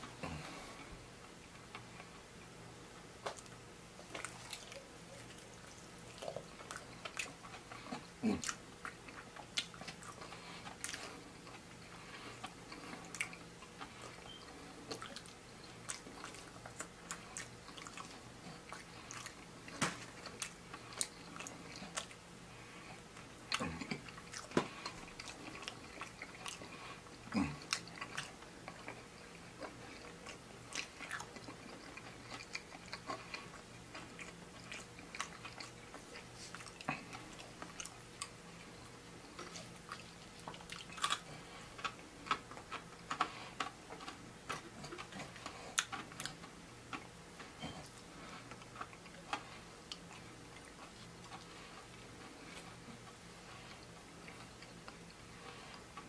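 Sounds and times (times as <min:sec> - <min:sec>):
chewing and crunching: 0:03.2 - 0:56.0.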